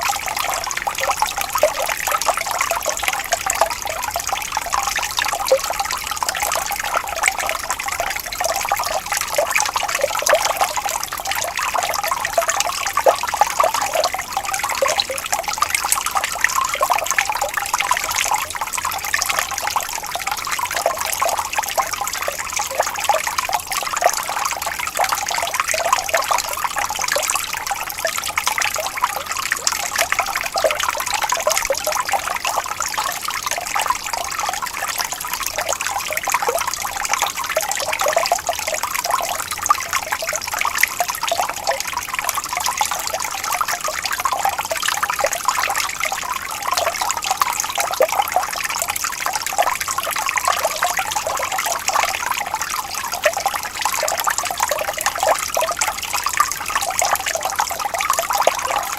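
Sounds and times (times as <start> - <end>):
water trickling and babbling: 0.0 - 58.9.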